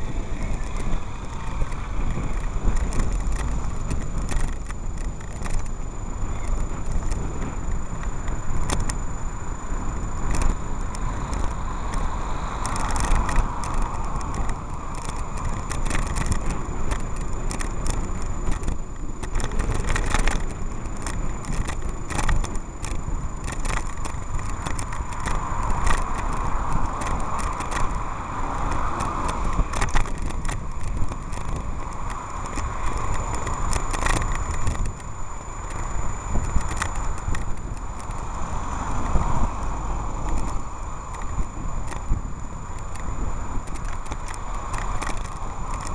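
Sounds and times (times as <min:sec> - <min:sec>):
bicycle rattling and clicking: 0:00.0 - 0:45.9
bicycle road noise: 0:00.0 - 0:45.9
cars passing: 0:00.0 - 0:45.9
wind rumble on microphone: 0:00.0 - 0:45.9.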